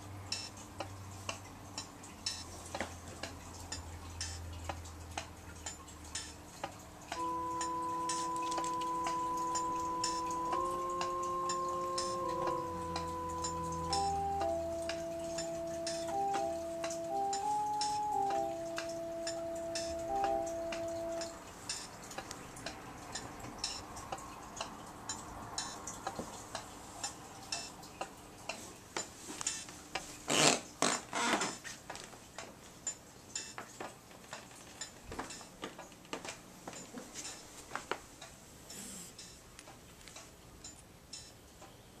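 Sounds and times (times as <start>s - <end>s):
steady light ticking: 0.0s - 30.1s, 32.3s - 35.6s, 38.2s - 41.7s.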